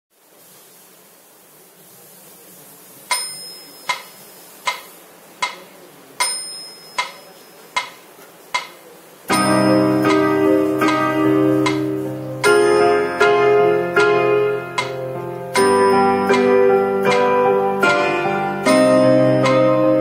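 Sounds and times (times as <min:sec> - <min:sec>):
fast piano finger exercise: 0:03.1 - 0:20.0
metronome ticking: 0:03.1 - 0:20.0.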